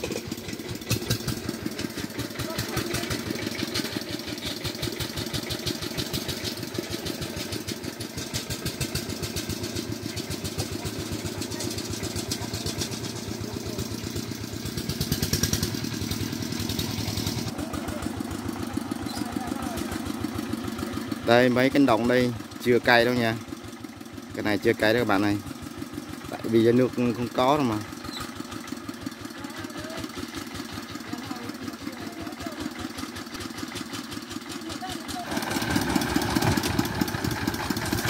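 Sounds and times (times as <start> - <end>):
diesel tractor engine chugging: 0.0 - 38.0.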